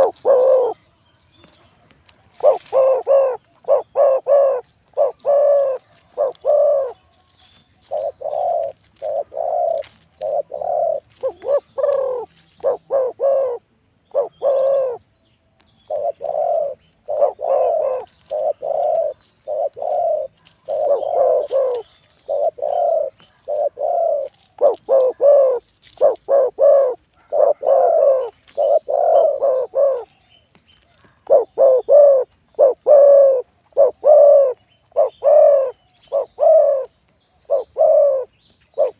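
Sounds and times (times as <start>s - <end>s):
doves cooing: 0.0s - 7.2s, 7.8s - 15.1s, 15.9s - 30.2s, 31.0s - 38.9s.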